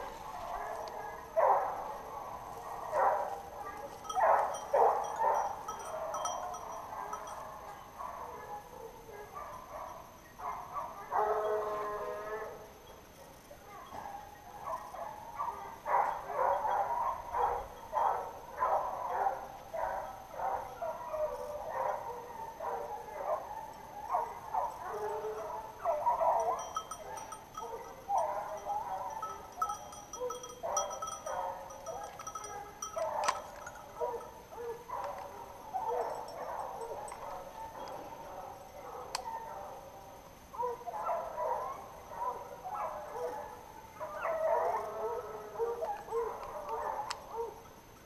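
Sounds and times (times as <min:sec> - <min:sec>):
hounds baying and barking: 0:00.0 - 0:47.9.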